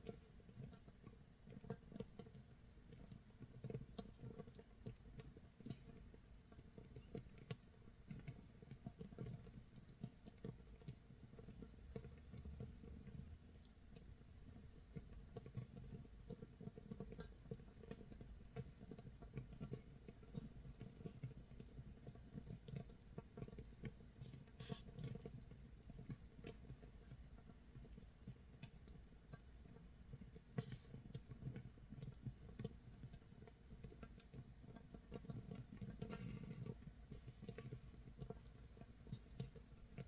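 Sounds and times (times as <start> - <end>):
tiny bubbles popping crackle: 0.0 - 40.0.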